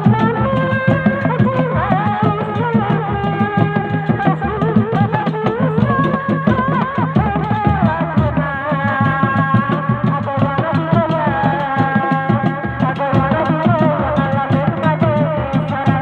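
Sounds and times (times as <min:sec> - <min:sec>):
hand drums beating fast rhythm: 0:00.0 - 0:16.0.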